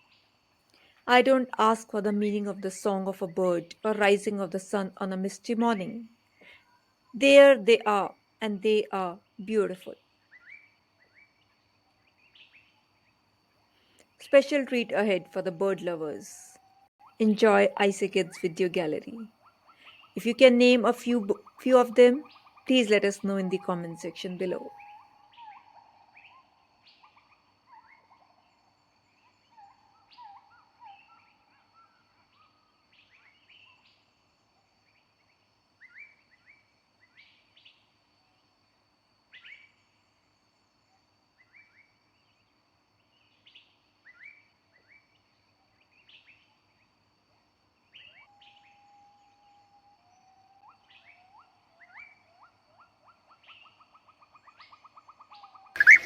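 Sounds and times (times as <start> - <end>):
faint birdsong chirps and trills: 0.0 - 56.0.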